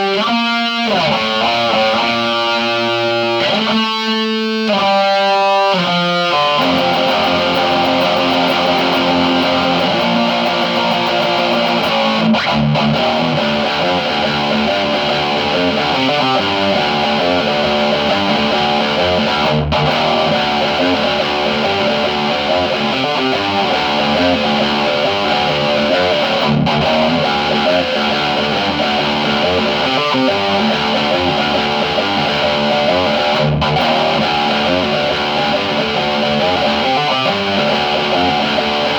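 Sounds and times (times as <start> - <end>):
electric guitar chords: 0.0 - 38.9.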